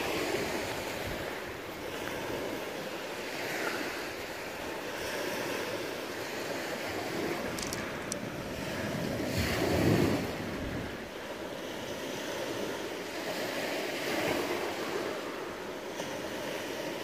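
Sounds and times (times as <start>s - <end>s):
wind on microphone: 0.0s - 15.3s
waves on pebble beach: 0.0s - 17.0s.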